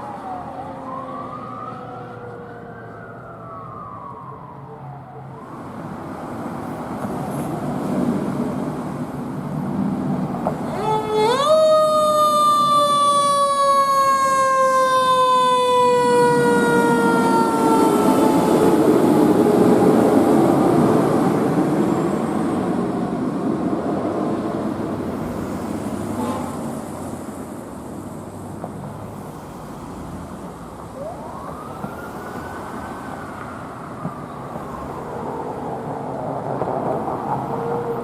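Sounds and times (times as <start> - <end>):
fire truck siren: 0.0 - 8.0, 10.5 - 25.1, 29.8 - 38.0
truck engine and tyres passing: 5.5 - 38.0.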